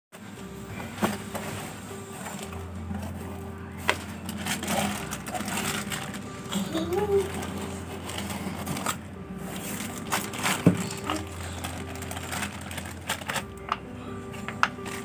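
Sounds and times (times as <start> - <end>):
plastic bag crinkling: 0.8 - 13.8.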